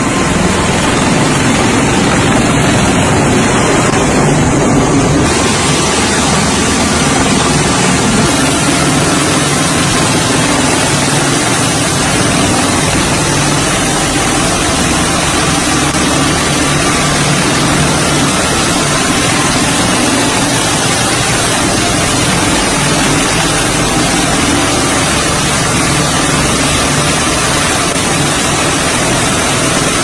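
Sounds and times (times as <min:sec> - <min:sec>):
aircraft rotors running: 0:00.0 - 0:30.0
low hum: 0:00.0 - 0:30.0.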